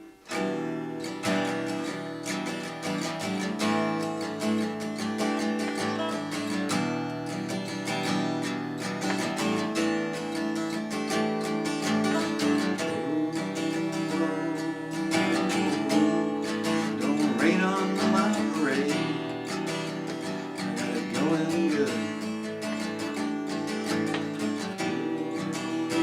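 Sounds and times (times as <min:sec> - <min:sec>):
acoustic guitar strumming: 0:00.0 - 0:26.0
sliding guitar melody: 0:00.0 - 0:26.0.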